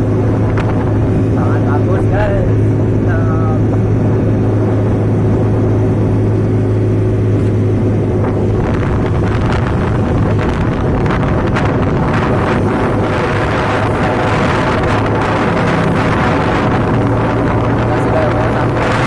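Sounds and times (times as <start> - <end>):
vehicle engine humming: 0.0 - 19.0
wind buffeting microphone: 0.0 - 19.0.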